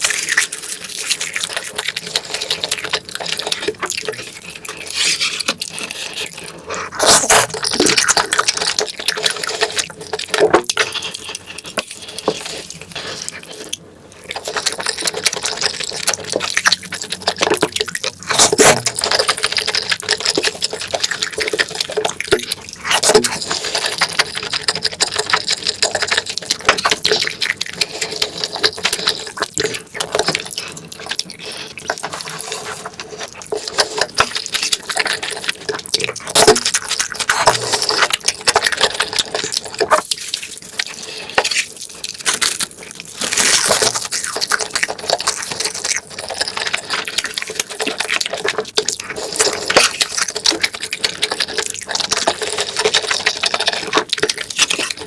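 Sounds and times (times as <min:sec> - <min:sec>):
wet chewing and slurping: 0:00.0 - 0:55.0.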